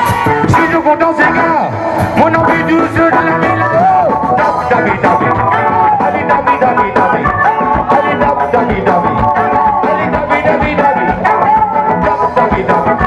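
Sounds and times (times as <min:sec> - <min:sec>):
live band music: 0:00.0 - 0:13.0
steady drum beat: 0:00.0 - 0:13.0.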